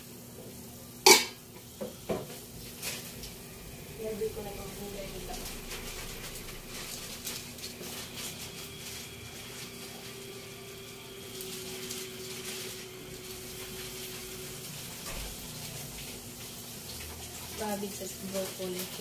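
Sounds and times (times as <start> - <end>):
food sizzling on a stove: 0.0 - 19.0
steady hum: 0.7 - 16.6.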